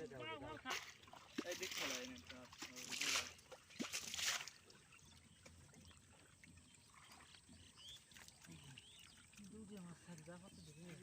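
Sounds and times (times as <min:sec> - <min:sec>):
water lapping and dripping: 0:00.0 - 0:11.0
water splashing by hand: 0:00.5 - 0:11.0.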